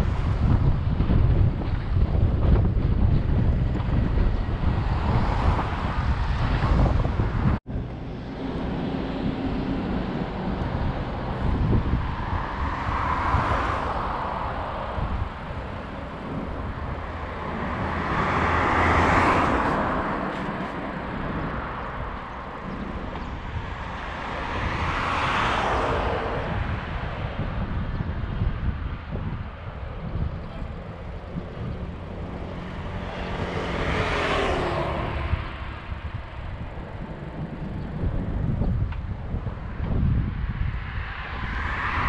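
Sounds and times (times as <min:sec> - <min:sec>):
vehicles passing: 0:00.0 - 0:42.0
wind buffeting microphone: 0:00.0 - 0:42.0.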